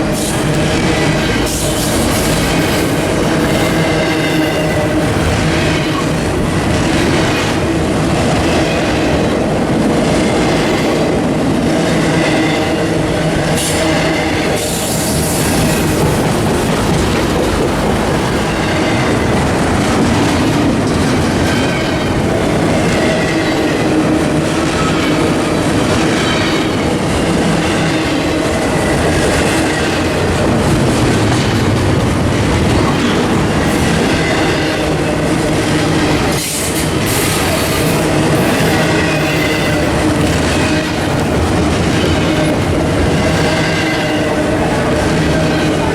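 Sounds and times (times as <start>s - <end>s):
train wheels clickety-clack: 0.0s - 45.9s.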